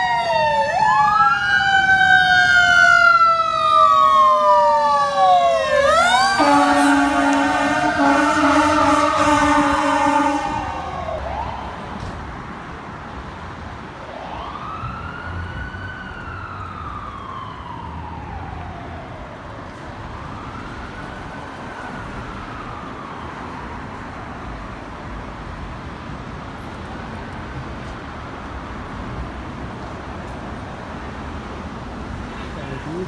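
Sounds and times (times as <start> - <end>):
fire engine siren wailing: 0.0 - 33.0
traffic rumble: 0.0 - 33.0.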